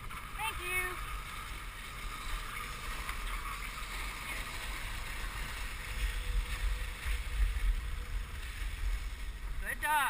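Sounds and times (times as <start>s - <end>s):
sled runners hissing on snow: 0.0s - 10.0s
wind rumble on microphone: 0.0s - 10.0s.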